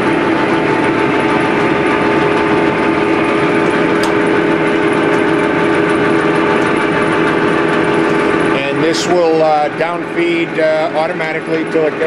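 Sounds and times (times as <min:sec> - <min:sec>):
surface grinder machine hum: 0:00.0 - 0:12.0.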